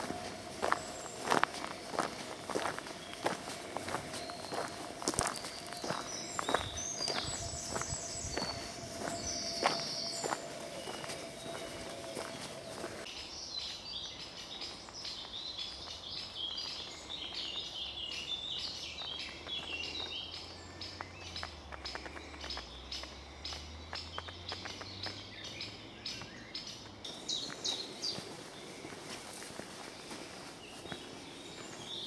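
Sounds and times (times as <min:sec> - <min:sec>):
songbirds singing and chirping: 0:00.0 - 0:32.0.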